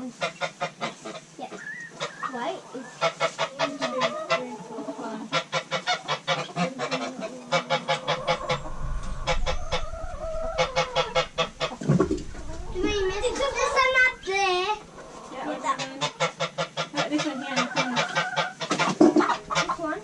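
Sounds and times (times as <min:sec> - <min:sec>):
chickens cackling and squawking: 0:00.0 - 0:20.0.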